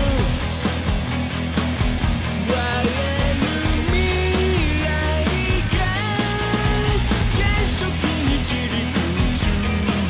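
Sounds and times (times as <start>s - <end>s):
rock music with guitar and bass: 0.0s - 10.0s.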